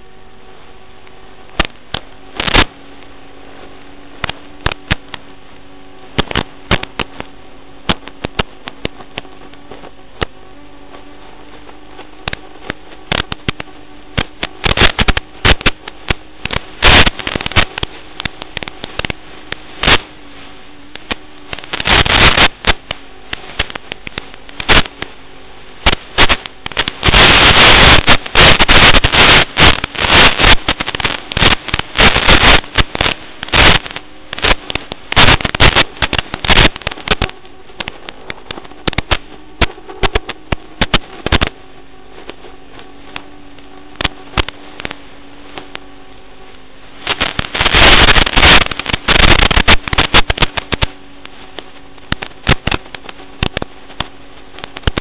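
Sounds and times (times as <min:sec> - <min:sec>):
crackling radio static: 0:00.0 - 0:55.0
faint steady hum: 0:00.0 - 0:55.0.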